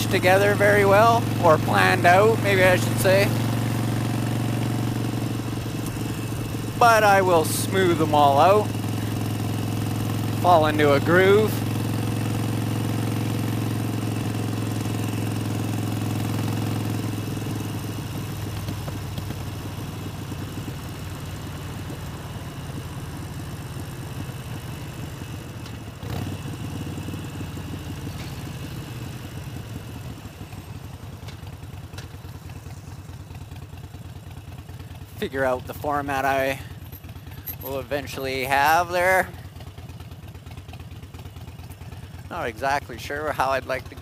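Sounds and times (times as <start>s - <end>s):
motorcycle engine cruising: 0.0s - 44.0s.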